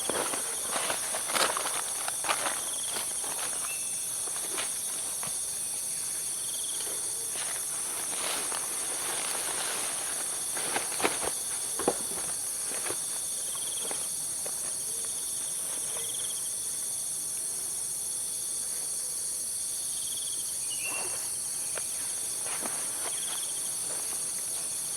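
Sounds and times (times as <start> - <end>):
forest insects chorus: 0.0 - 24.9.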